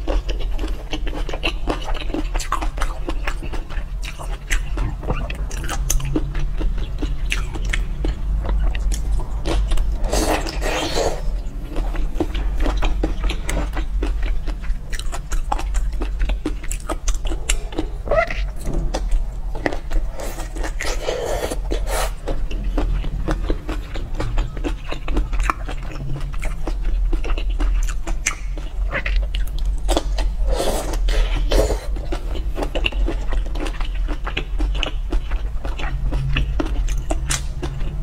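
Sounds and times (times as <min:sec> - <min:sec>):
steady low hum: 0:00.0 - 0:38.0
wet chewing and biting: 0:00.0 - 0:38.0.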